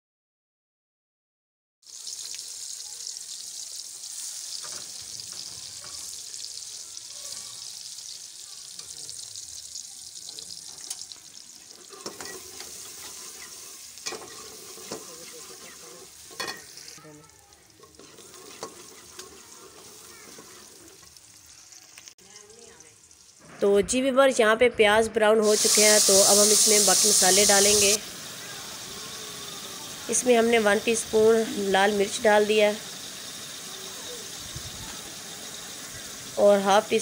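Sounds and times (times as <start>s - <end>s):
onions sizzling in hot oil: 1.8s - 23.9s, 25.4s - 37.0s.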